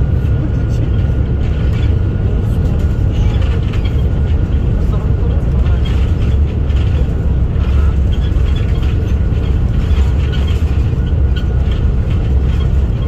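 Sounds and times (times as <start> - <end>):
jet cabin engine rumble: 0.0 - 13.0.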